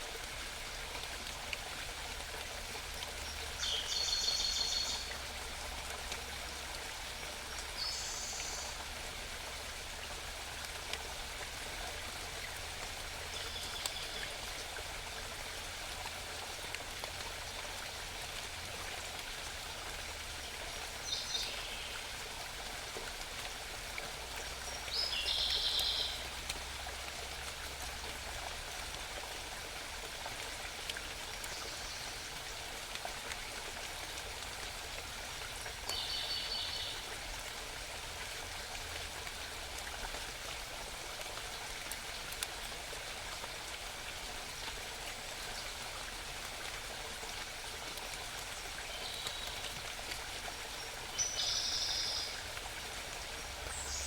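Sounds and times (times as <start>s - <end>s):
small mountain stream babbling: 0.0s - 54.0s.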